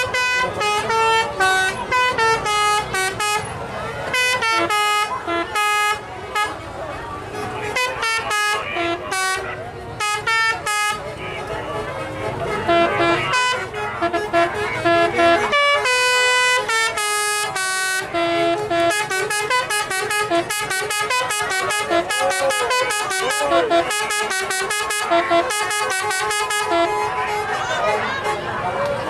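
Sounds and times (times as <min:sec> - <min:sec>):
bus musical horn playing tune: 0:00.0 - 0:28.7.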